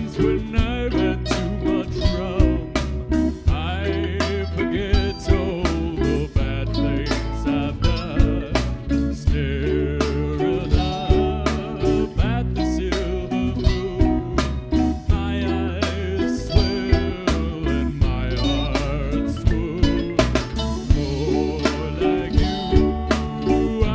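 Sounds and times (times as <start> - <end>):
bass line: 0.0 - 23.9
drum beat: 0.0 - 23.9.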